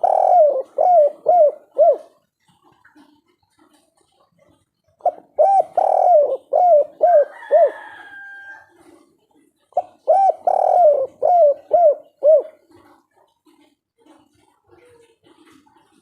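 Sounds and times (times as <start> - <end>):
dove cooing: 0.0 - 13.6.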